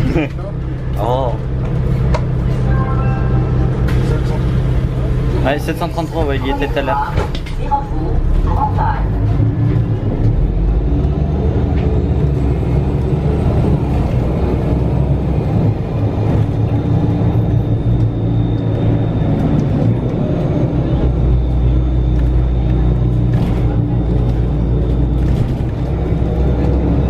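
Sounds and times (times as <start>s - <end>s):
bus engine low rumble: 0.0s - 27.0s.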